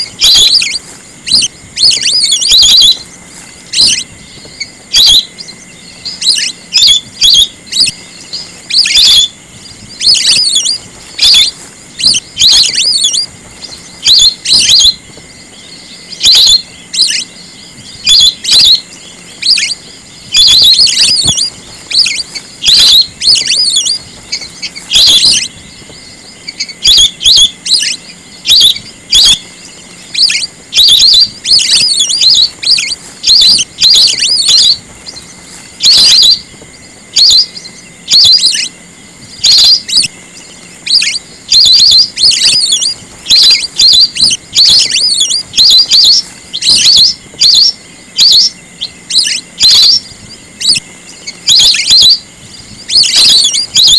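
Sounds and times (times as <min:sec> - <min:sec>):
ducks whistling calls: 0:00.0 - 0:53.9.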